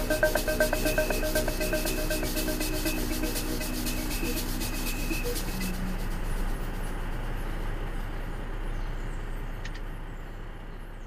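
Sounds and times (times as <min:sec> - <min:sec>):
diesel engine idling: 0:00.0 - 0:10.7.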